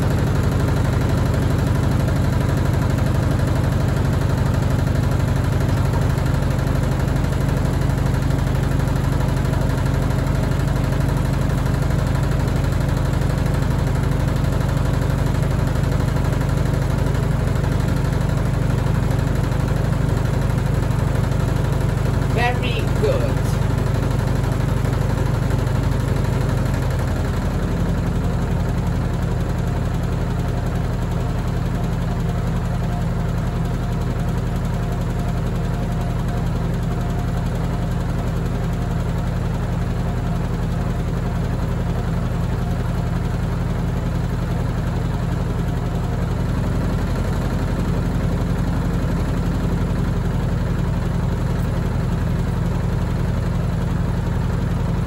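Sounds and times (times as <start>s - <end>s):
washing machine humming: 0.0s - 55.0s.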